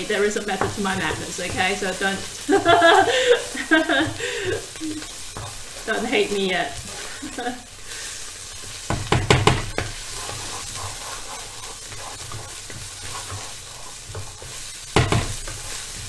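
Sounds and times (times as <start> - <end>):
paste sizzling in hot oil: 0.0 - 16.0
spatula scraping a pan: 0.0 - 16.0.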